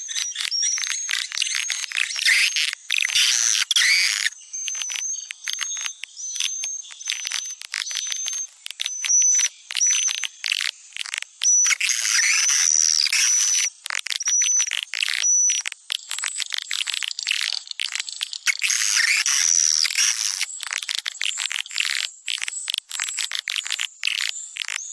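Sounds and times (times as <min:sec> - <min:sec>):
swiftlets twittering: 0:00.1 - 0:24.8.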